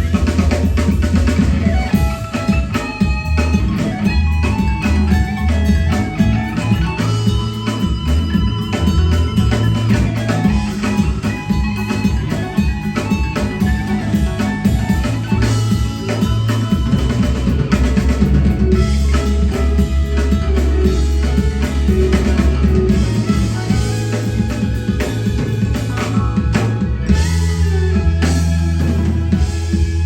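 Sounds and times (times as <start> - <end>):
drum kit: 0.0 - 30.0
electric guitars: 0.0 - 30.0.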